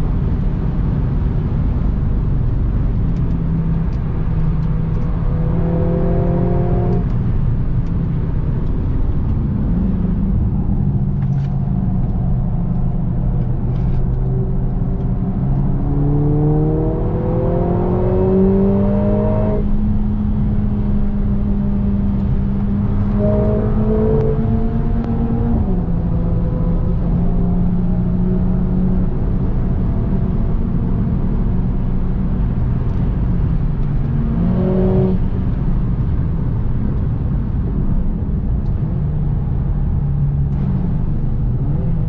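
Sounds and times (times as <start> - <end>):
car engine accelerating: 0.0 - 42.0
road and tyre noise: 0.0 - 42.0.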